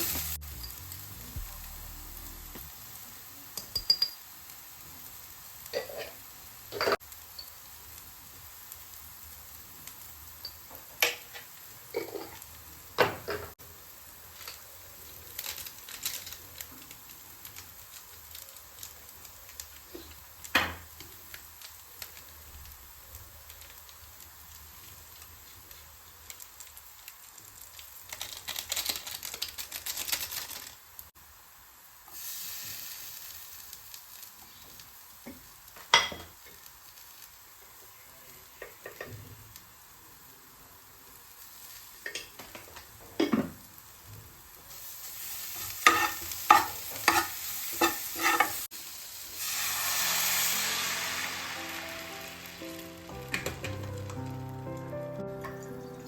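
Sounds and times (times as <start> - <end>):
food frying in a pan: 0.0 - 56.0.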